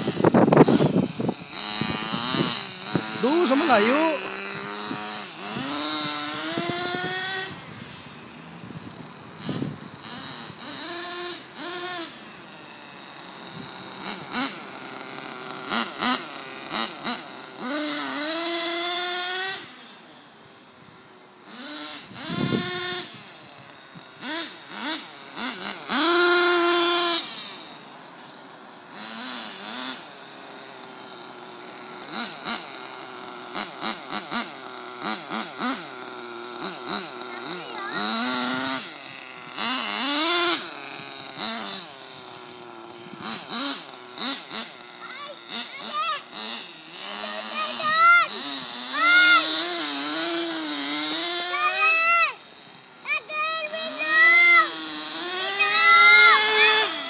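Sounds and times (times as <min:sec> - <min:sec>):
model buggy engine revving: 0:00.0 - 0:57.0.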